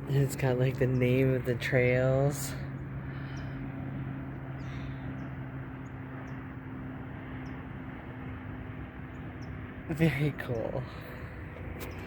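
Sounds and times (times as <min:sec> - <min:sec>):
low hum: 0:00.0 - 0:12.0
small birds chirping: 0:00.1 - 0:12.0.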